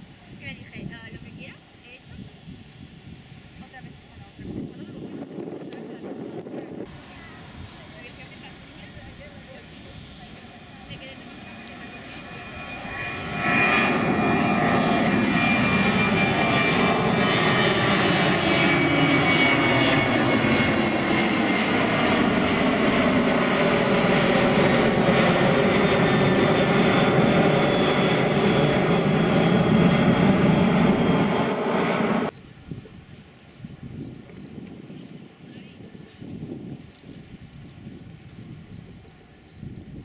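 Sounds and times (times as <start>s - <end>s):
jet engine roar: 0.0s - 32.4s.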